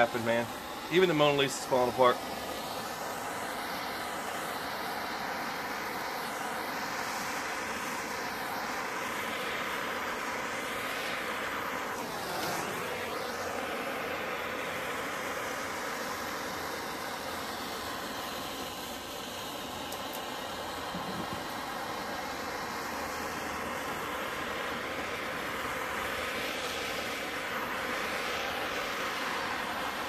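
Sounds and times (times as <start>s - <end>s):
torch flame hissing: 0.0s - 30.0s.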